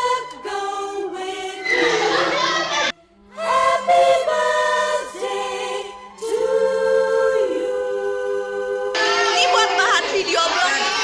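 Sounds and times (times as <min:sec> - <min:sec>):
choir singing in harmony: 0:00.0 - 0:11.0.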